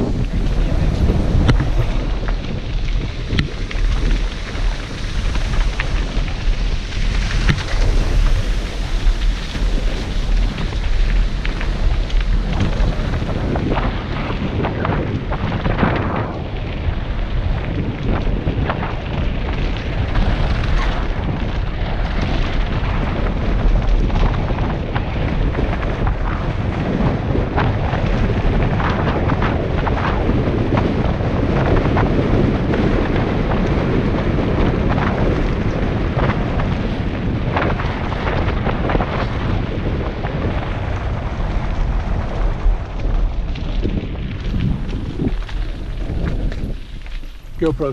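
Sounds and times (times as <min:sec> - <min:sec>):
bike clicking and rattling: 0:00.0 - 0:47.9
bike tyres on gravel: 0:00.0 - 0:47.9
wind buffeting a helmet camera: 0:00.0 - 0:47.9.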